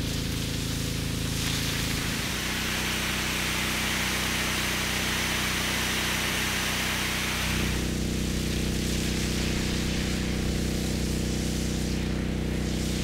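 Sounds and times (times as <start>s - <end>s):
water pump engine running: 0.0s - 13.0s
water spray hissing from hose: 0.0s - 13.0s.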